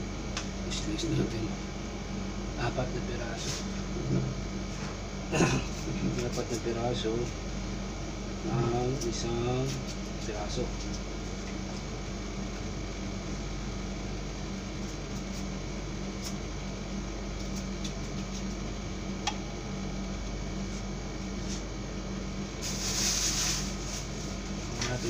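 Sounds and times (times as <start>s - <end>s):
air conditioner humming: 0.0s - 25.0s.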